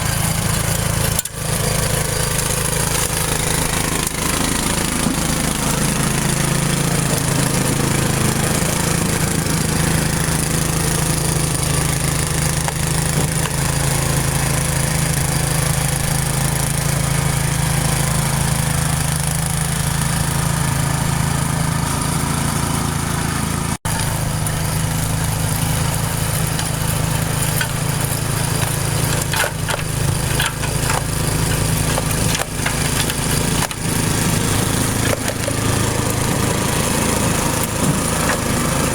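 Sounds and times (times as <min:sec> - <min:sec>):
leaf blower running: 0:00.0 - 0:38.9.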